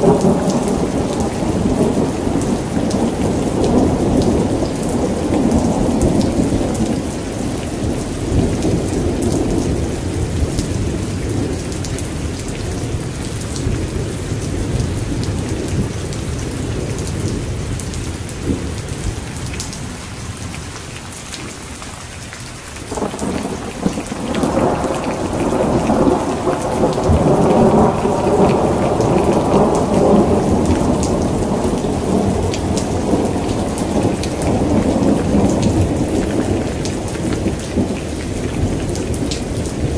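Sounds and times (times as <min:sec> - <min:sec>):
rolling thunder: 0:00.0 - 0:19.6, 0:22.9 - 0:39.9
heavy rain pouring: 0:00.0 - 0:39.9.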